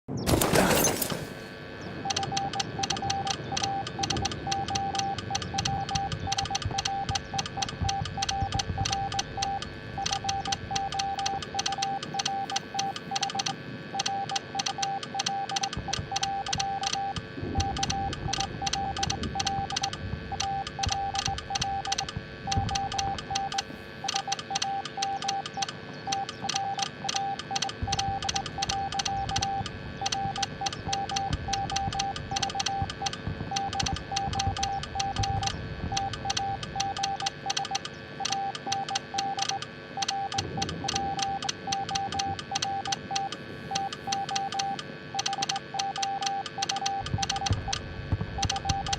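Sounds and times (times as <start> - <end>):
morse code beeps: 0.1 - 48.9
fast sharp clicks: 2.0 - 48.9.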